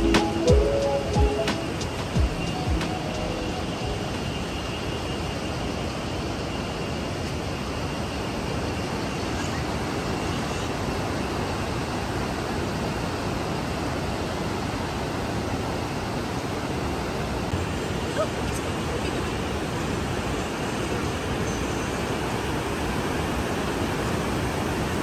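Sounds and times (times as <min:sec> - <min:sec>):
river rushing over rocks: 0:00.0 - 0:25.0.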